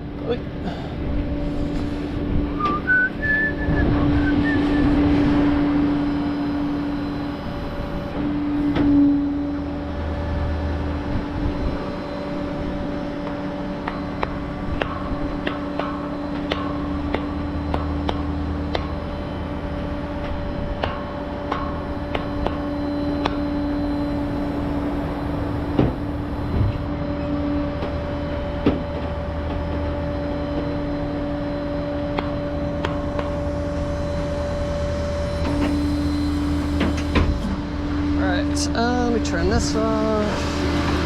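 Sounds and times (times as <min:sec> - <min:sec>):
truck engine drone and whine: 0:00.0 - 0:41.0.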